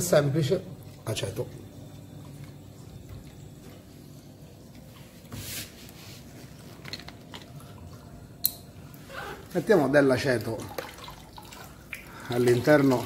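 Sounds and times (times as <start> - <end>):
chiller and pump hum: 0.0 - 13.0.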